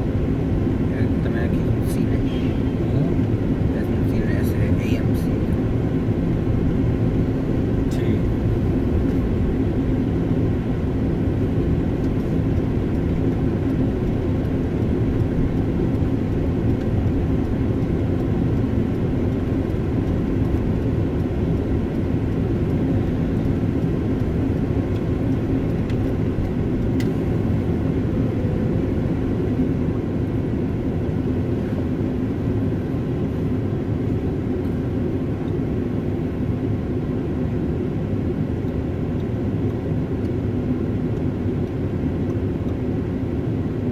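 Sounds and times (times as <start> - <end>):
road and engine noise in car: 0.0 - 43.9.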